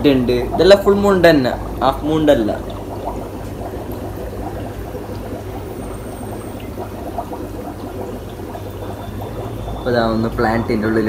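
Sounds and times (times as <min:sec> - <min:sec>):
aquarium filter bubbling: 0:00.0 - 0:11.0
constant low hum: 0:00.0 - 0:11.0.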